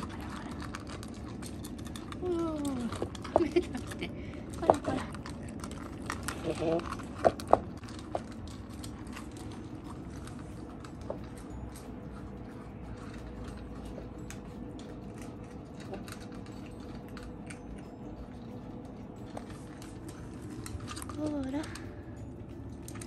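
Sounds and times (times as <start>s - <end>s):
cats crunching dry food: 0.0s - 23.0s.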